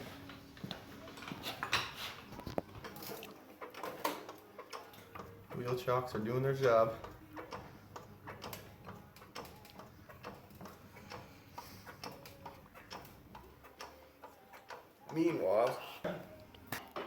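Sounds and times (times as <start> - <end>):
hand tools clicking and tapping: 0.0 - 17.0.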